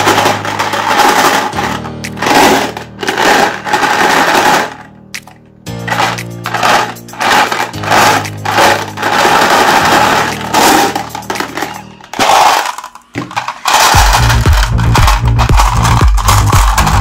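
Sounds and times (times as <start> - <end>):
glass marbles crunching: 0.0 - 17.0.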